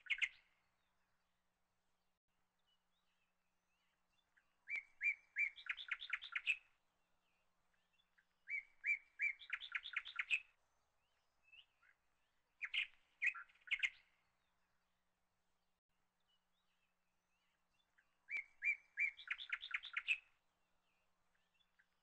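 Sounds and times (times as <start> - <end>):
songbird singing: 0.0 - 1.7, 2.4 - 22.0.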